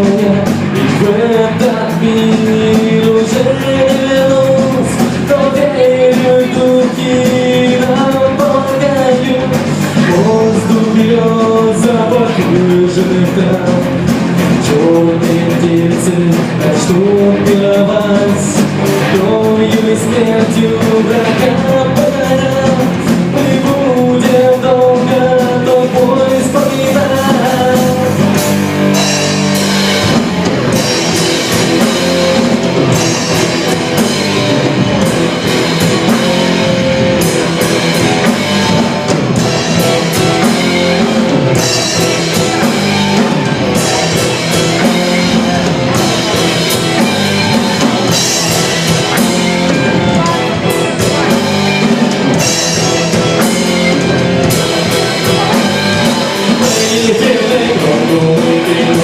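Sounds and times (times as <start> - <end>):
drum kit: 0.0 - 59.0
guitar: 0.0 - 59.0.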